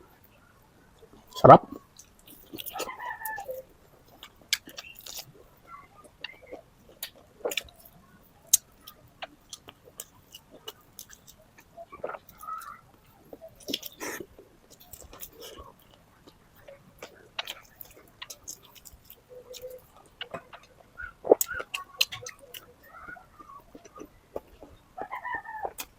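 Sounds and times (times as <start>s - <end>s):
chewing and biting: 1.4s - 5.4s, 6.2s - 24.8s.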